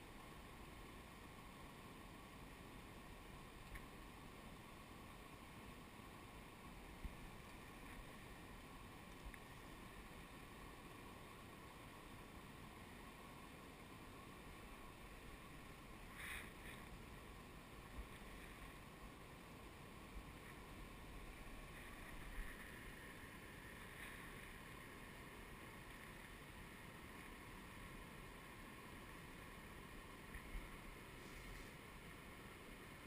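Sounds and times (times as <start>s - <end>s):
small waterfall rushing: 0.0s - 33.0s.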